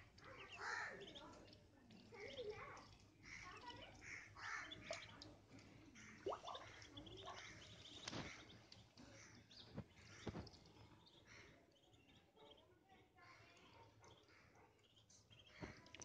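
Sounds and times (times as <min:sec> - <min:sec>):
ducklings peeping: 0:00.1 - 0:01.6, 0:02.2 - 0:05.3, 0:06.0 - 0:12.6, 0:14.1 - 0:15.8.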